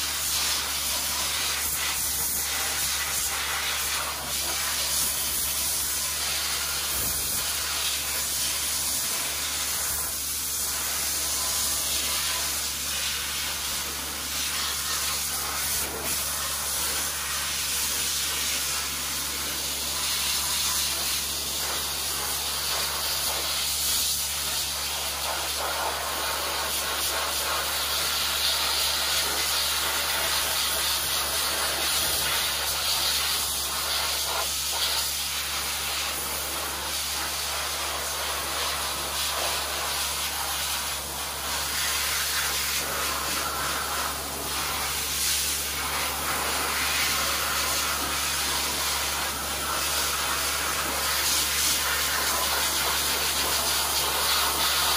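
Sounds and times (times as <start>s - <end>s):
dry ice blasting hiss: 0.0s - 54.9s.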